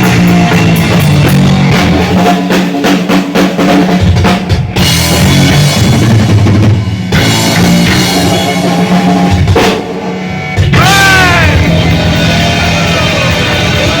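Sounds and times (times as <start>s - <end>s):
distorted guitar: 0.0s - 14.0s
drum kit with bass drum: 0.0s - 14.0s
heavy metal band playing: 0.0s - 14.0s.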